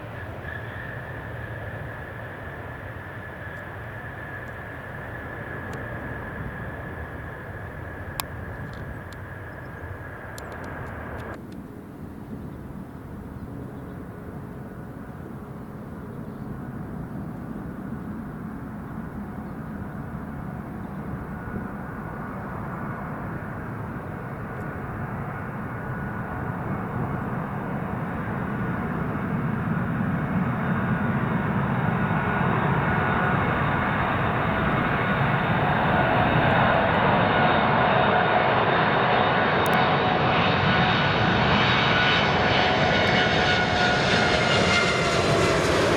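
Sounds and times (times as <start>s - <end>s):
jet engine whine: 0.0s - 45.9s
jet engines droning on approach: 0.0s - 45.9s.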